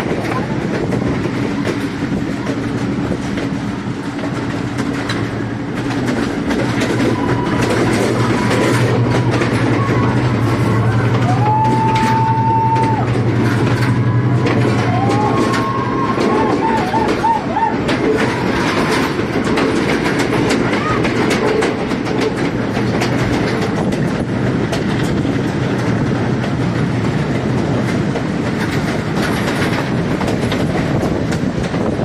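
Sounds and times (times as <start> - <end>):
train wheels clattering over rails: 0.0 - 32.0.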